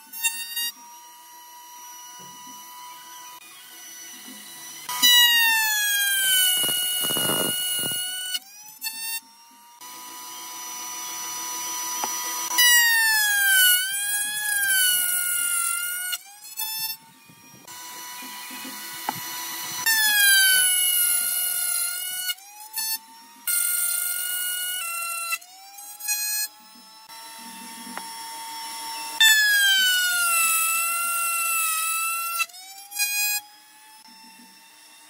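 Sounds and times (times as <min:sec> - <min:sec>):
router cutting wood: 0:00.0 - 0:35.0.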